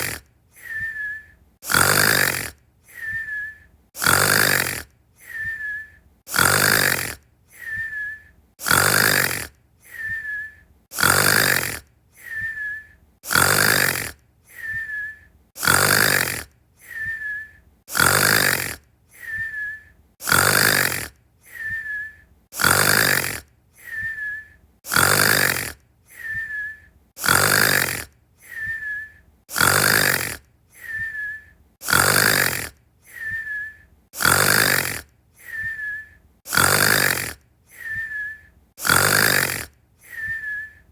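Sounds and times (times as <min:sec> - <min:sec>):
cartoon snoring with whistle: 0:00.0 - 0:40.9.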